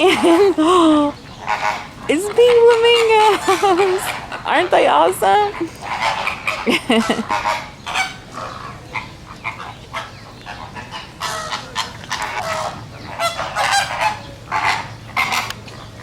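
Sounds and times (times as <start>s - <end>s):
flamingos honking: 0.0s - 16.0s.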